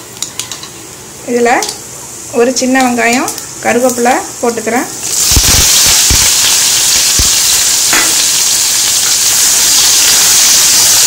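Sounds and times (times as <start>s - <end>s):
onion sizzling in hot oil: 0.4s - 11.0s.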